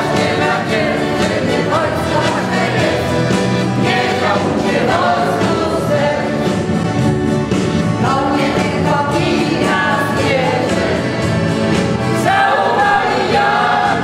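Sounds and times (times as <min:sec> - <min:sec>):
accordion chords: 0:00.0 - 0:14.0
group of people singing: 0:00.0 - 0:14.0.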